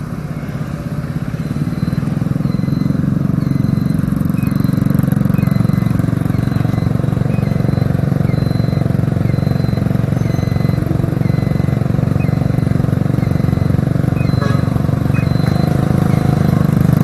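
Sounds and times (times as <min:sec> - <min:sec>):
motorcycle engine running: 0:00.0 - 0:17.0
faint short high beeps: 0:01.4 - 0:16.5.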